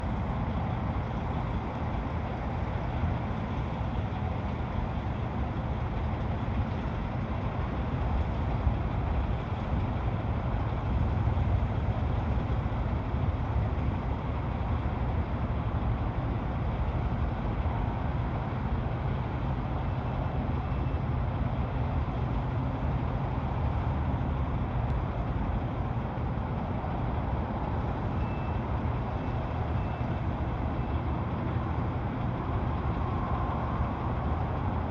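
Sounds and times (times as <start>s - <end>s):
distant engines rumbling: 0.0s - 34.9s.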